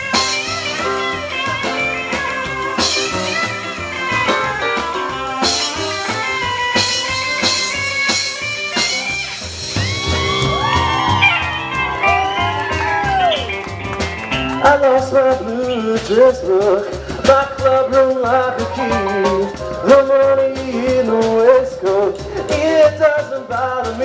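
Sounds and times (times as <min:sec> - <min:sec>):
electric guitar lead: 0:00.0 - 0:23.4
live rock band playing: 0:00.0 - 0:24.0.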